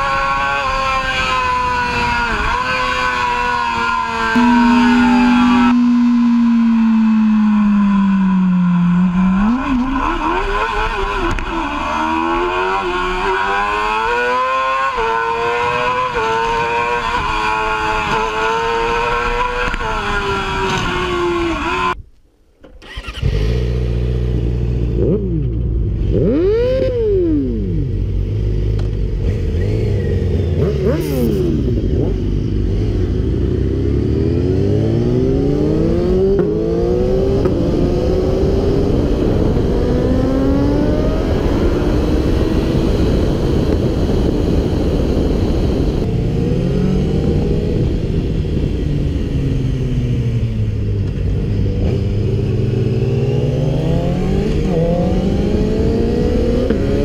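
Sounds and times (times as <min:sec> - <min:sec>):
sportbike engine accelerating: 0:00.0 - 0:22.0, 0:22.9 - 0:57.0
sportbike engines revving: 0:00.0 - 0:22.0, 0:22.9 - 0:57.0.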